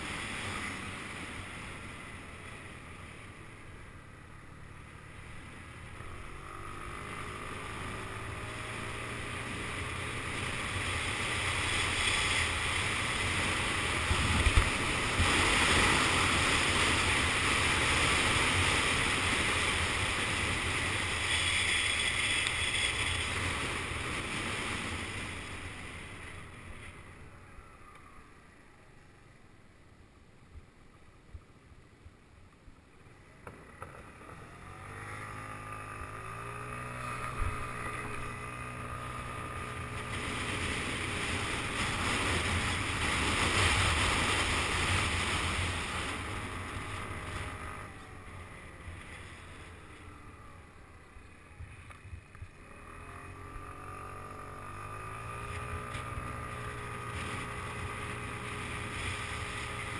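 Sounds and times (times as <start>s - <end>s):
scooter engine hum: 0.0s - 59.9s.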